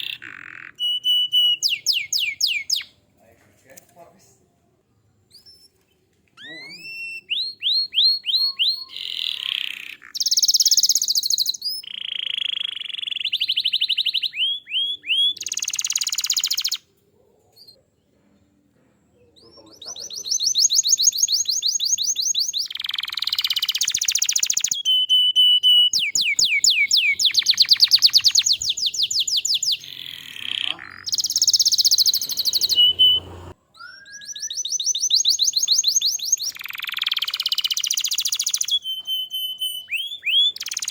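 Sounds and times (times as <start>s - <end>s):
canary singing trills: 0.0s - 3.0s, 6.4s - 17.8s, 19.2s - 40.9s.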